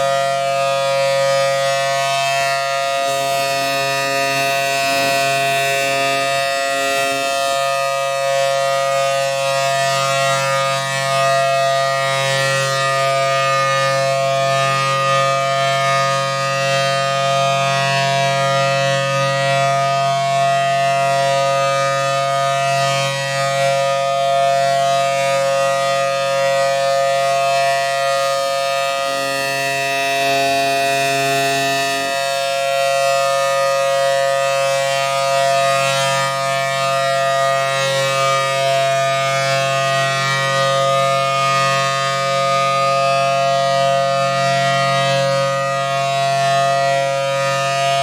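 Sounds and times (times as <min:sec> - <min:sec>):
warning siren steady tone: 0:00.0 - 0:48.0.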